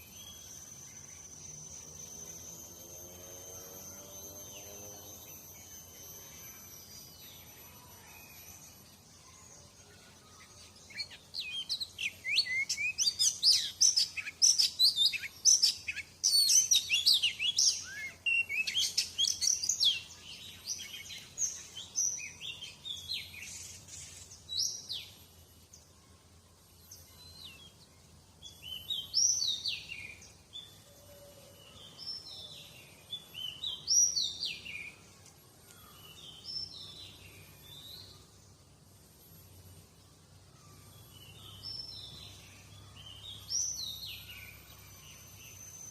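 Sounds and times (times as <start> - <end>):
bird singing whistled notes: 0.0 - 25.9, 26.8 - 38.6, 40.6 - 45.9.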